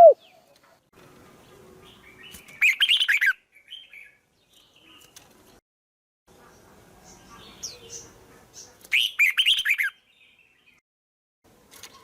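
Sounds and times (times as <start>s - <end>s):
songbird chirping: 0.0s - 5.6s, 6.4s - 10.8s.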